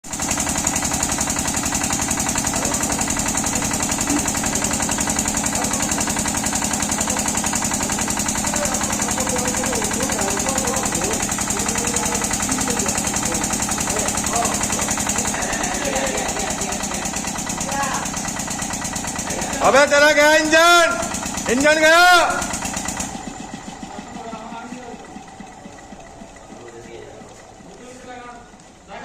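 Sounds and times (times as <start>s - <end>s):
engine running with rapid beat: 0.0s - 29.0s.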